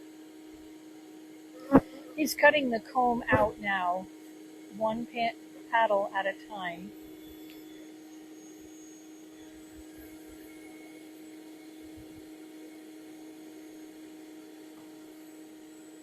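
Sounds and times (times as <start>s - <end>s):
vacuum motor humming: 0.0s - 5.7s, 6.9s - 16.0s.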